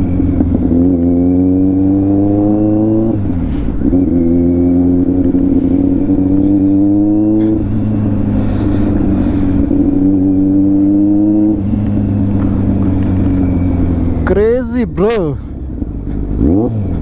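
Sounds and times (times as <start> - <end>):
motorcycle engine and exhaust: 0.0 - 17.0.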